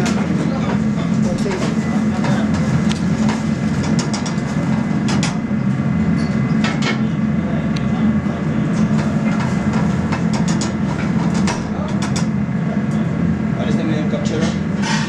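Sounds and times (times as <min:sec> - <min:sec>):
kitchen range and ventilation drone: 0:00.0 - 0:15.0.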